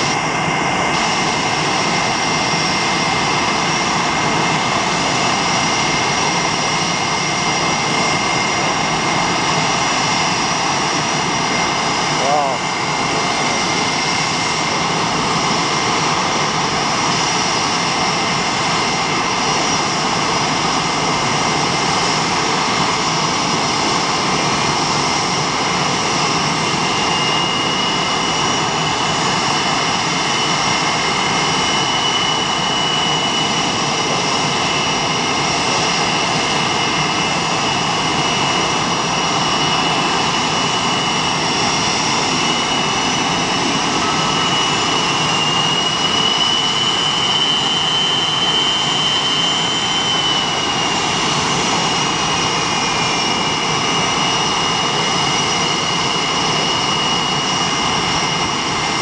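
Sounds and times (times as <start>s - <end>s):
jet engines idling: 0.0s - 59.0s.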